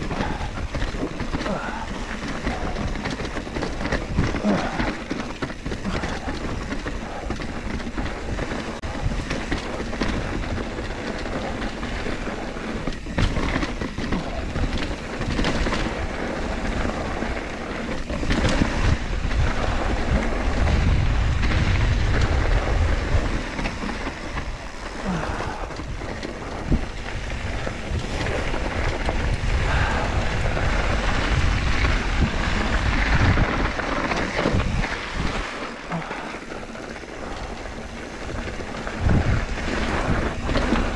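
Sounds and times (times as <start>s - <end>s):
bike rattling over bumps: 0.0s - 40.9s
bike tyres crunching over ground: 0.0s - 40.9s
wind rumble on microphone: 0.0s - 40.9s.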